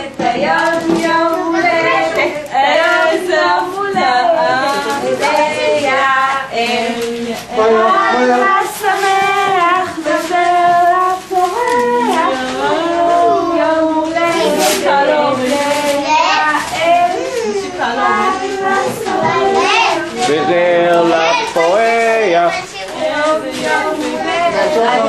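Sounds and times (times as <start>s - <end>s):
children and women singing: 0.0s - 25.0s.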